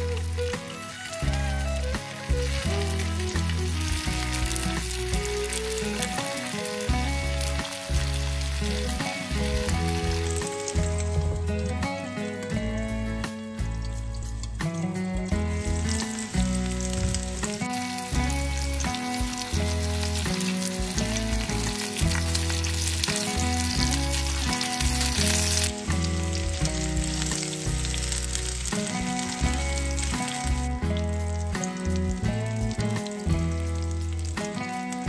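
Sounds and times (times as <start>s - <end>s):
background music with bass: 0.0s - 35.0s
meatballs sizzling in oil: 0.0s - 35.0s.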